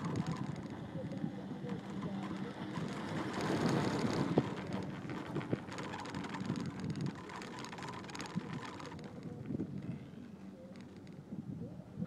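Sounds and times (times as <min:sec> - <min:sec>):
chairlift running hum: 0:00.0 - 0:11.9
wind buffeting microphone: 0:00.0 - 0:12.0.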